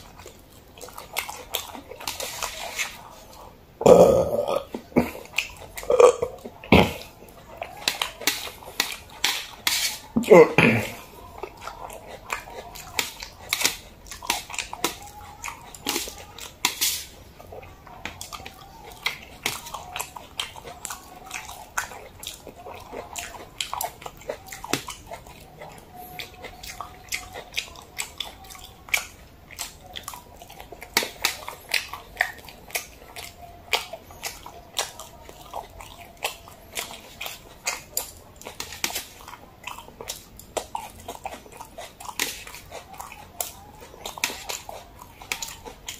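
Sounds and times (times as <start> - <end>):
chewing and mouth sounds: 0.0 - 45.9.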